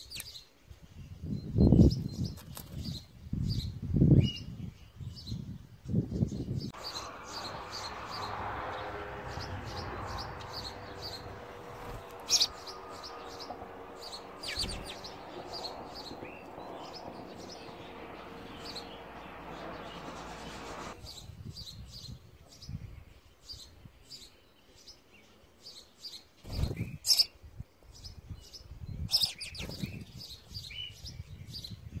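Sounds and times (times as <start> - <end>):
sparrows chirping: 0.0 - 32.0.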